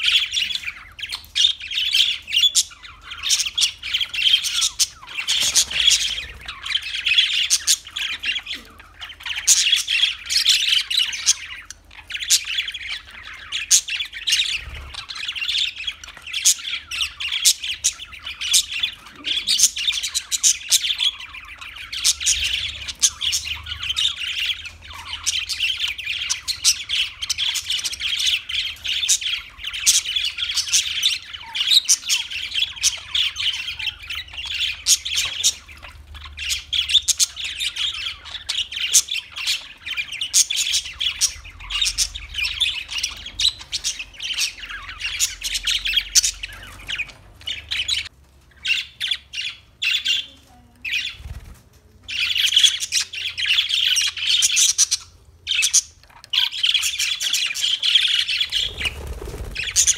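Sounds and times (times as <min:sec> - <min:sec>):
budgerigars chattering: 0:00.0 - 0:51.4, 0:52.0 - 0:59.9.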